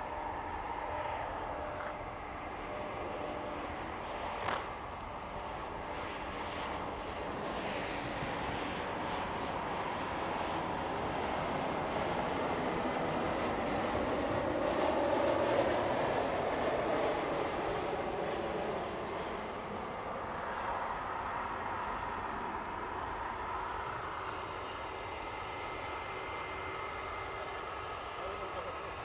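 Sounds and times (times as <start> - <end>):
high steady whine: 0.0 - 29.0
jet engine rumble: 0.0 - 29.0.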